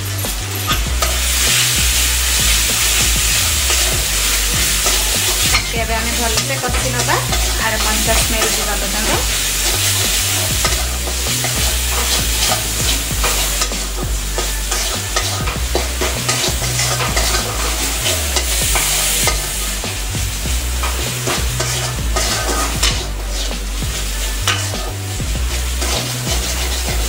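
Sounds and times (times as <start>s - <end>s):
metal spatula scraping a pan: 0.0s - 27.0s
onions sizzling in oil: 0.0s - 27.0s.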